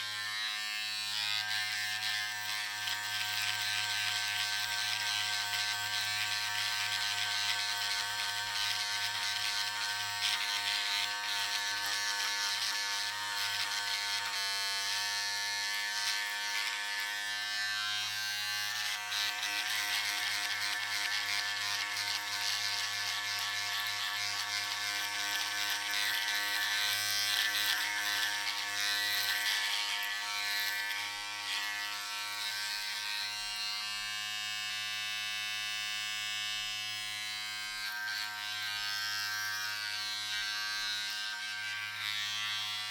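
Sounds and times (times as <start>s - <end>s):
electric razor buzzing: 0.0s - 42.9s.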